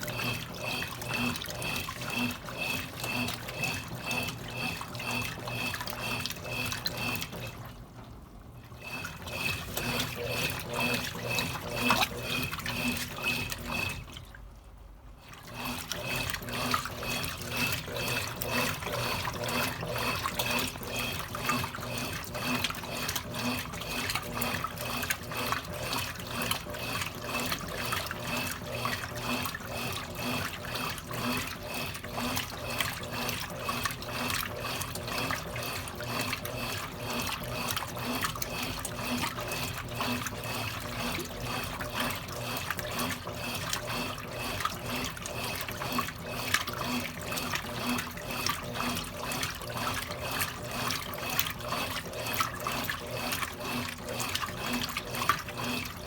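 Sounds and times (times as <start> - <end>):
water running in washing machine: 0.0 - 56.0.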